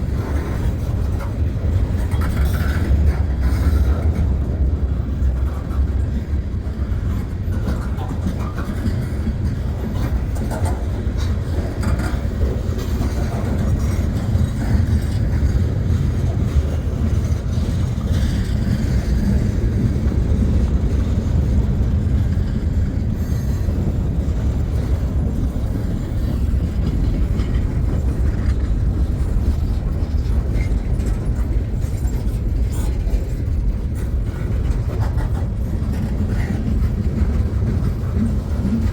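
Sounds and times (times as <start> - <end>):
clicking over rail joints: 0.0 - 38.9
freight train rumbling past: 0.0 - 38.9.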